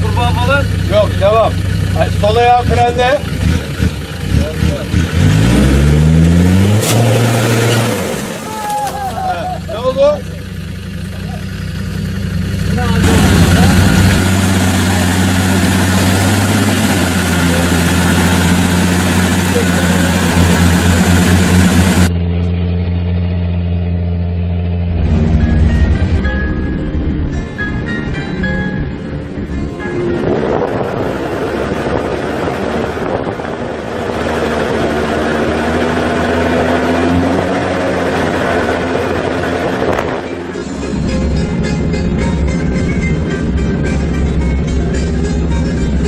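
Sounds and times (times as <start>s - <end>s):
off-road vehicle engine running: 0.0s - 46.0s.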